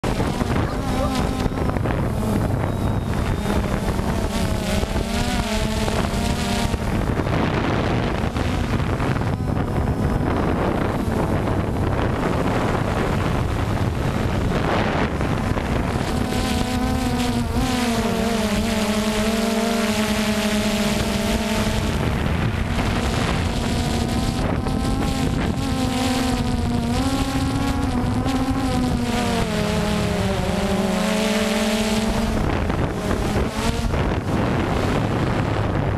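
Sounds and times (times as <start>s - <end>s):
drone propellers buzzing: 0.0s - 35.9s
wind noise on microphone: 0.0s - 35.9s.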